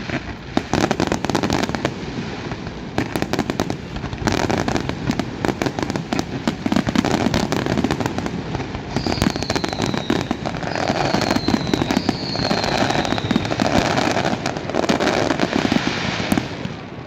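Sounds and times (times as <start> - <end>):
falling firework whistles: 0.0 - 16.9
fireworks bangs and crackling: 0.0 - 17.0.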